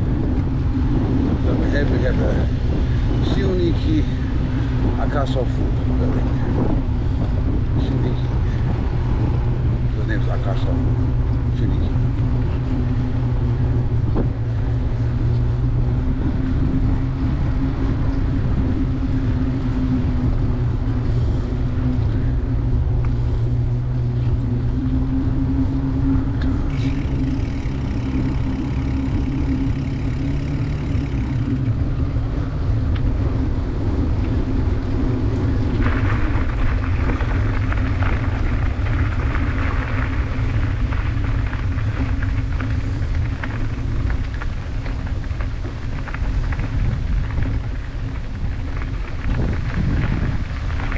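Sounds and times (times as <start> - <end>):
bicycle tyres humming on pavement: 0.0 - 50.9
wind rumble on microphone: 0.0 - 50.9.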